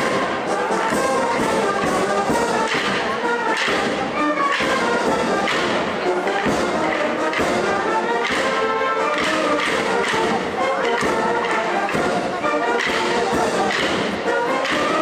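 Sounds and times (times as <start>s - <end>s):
brass band music: 0.0s - 15.0s
drum hits: 0.8s - 15.0s.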